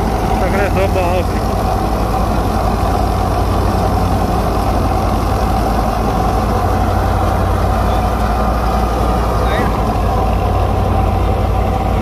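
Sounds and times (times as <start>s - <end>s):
mid-pitched machine whine: 0.0s - 12.0s
threshing machine drone: 0.0s - 12.0s.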